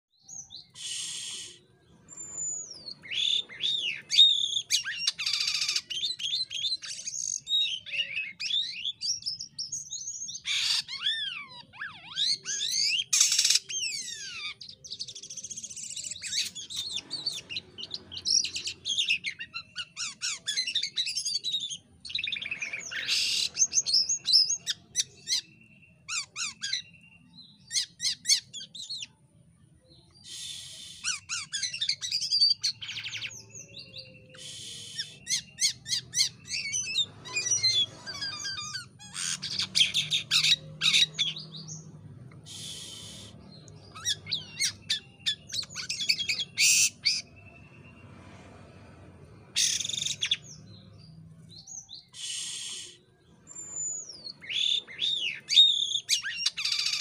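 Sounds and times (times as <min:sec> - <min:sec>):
harsh rasping bird calls: 0:00.2 - 0:29.2, 0:30.1 - 0:57.0
starling singing: 0:00.2 - 0:29.2, 0:29.9 - 0:57.0.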